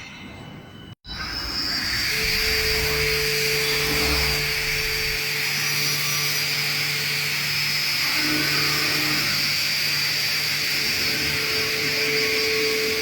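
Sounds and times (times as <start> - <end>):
woodworking machine whine: 1.1 - 13.0.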